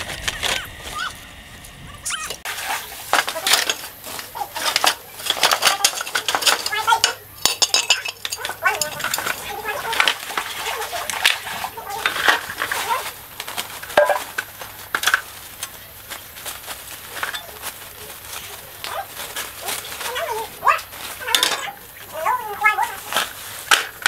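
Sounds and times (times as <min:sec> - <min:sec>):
metal parts clinking on concrete: 0:03.1 - 0:15.8, 0:17.1 - 0:24.0.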